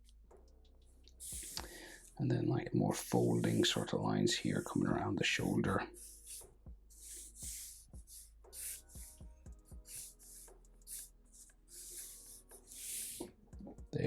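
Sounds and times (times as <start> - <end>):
pencil scratching on paper: 1.2 - 2.1, 3.0 - 13.4.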